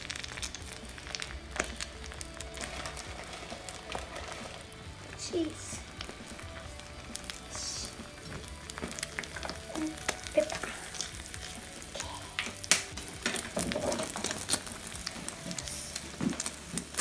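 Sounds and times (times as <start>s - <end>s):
omelette sizzling in a pan: 0.0s - 17.0s
sharp crackles and pops: 0.0s - 17.0s.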